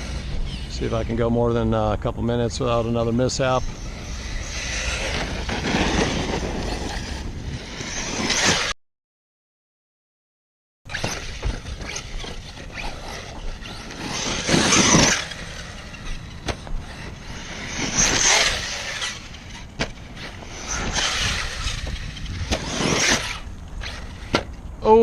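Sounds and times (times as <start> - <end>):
rc car driving over dirt: 0.0 - 8.8, 10.9 - 25.0.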